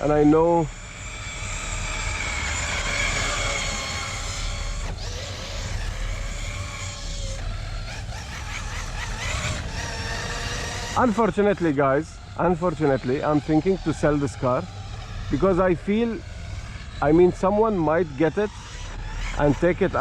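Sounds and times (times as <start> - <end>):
electric rc truck motor whining: 0.0 - 20.0.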